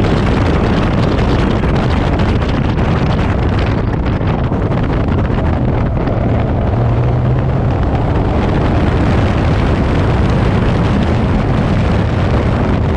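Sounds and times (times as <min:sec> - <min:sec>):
wind buffeting on microphone: 0:00.0 - 0:12.9
sports car engine under load: 0:01.6 - 0:12.9.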